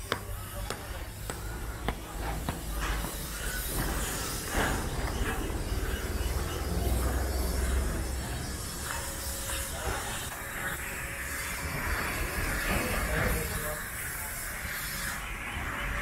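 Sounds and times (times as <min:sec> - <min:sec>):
hissing outdoor background noise: 0:00.0 - 0:16.0.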